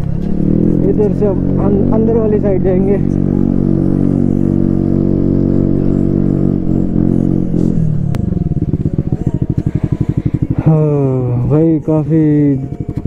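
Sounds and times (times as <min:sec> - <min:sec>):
raspy scooter engine: 0:00.0 - 0:13.0.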